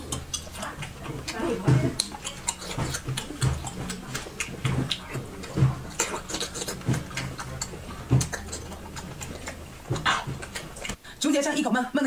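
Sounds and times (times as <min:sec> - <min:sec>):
wet chewing and smacking: 0:00.0 - 0:11.0.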